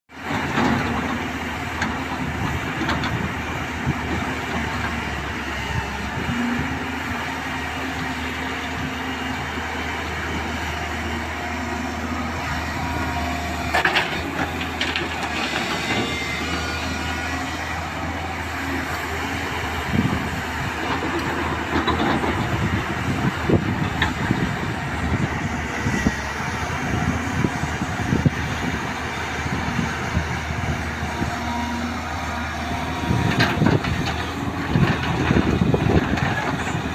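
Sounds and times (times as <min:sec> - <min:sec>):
diesel engine humming: 0:00.2 - 0:36.9.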